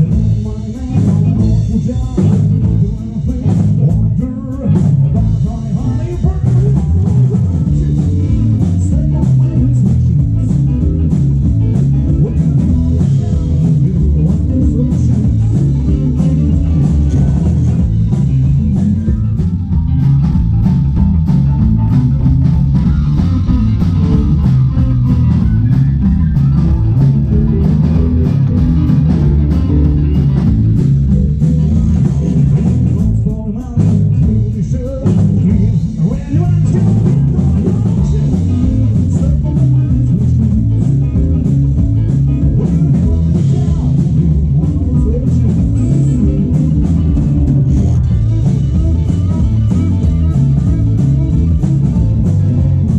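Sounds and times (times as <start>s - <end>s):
heavy bass: 0.0s - 52.9s
live rock blues band: 0.0s - 52.9s
steady drum beat: 0.0s - 52.9s.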